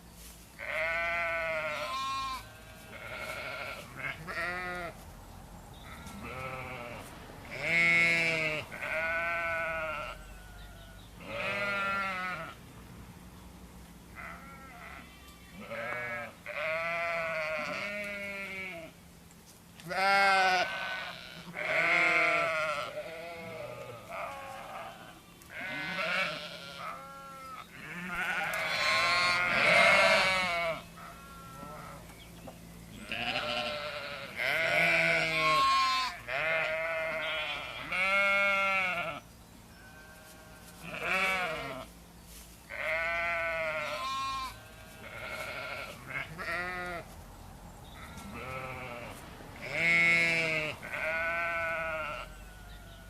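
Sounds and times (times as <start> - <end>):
sheep bleating: 0.6 - 4.9, 5.9 - 12.6, 14.2 - 18.9, 19.9 - 32.0, 33.0 - 39.2, 39.8 - 41.9, 42.7 - 47.1, 48.0 - 53.0.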